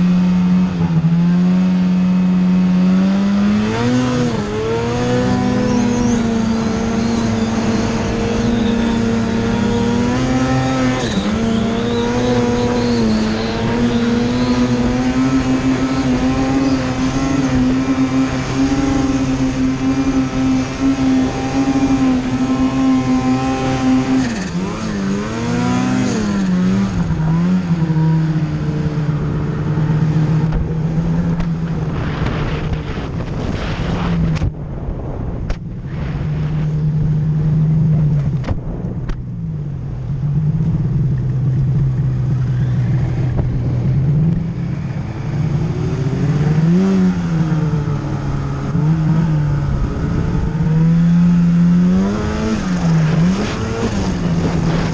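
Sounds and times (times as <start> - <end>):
snowmobile engine revving: 0.0 - 39.1, 42.0 - 54.9.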